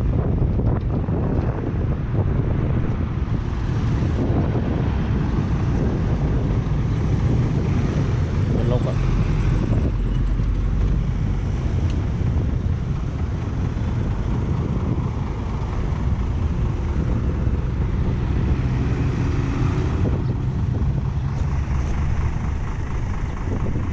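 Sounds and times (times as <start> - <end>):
diesel truck engine running: 0.0 - 23.9
road traffic: 0.0 - 23.9.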